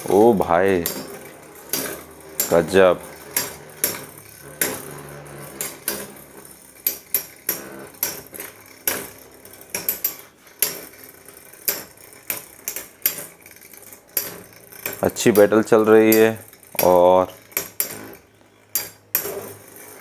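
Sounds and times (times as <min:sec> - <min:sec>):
spinning tops clashing metallically: 0:00.0 - 0:20.0.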